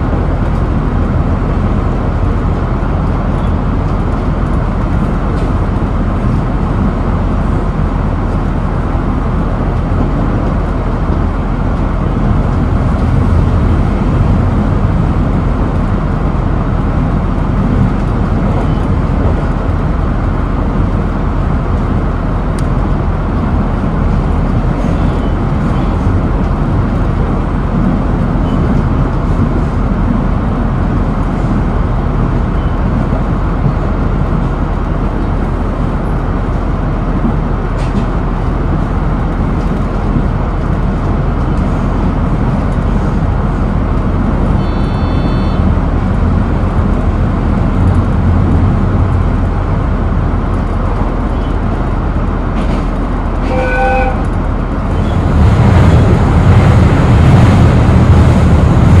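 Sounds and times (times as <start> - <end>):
railcar running rumble: 0.0 - 59.0.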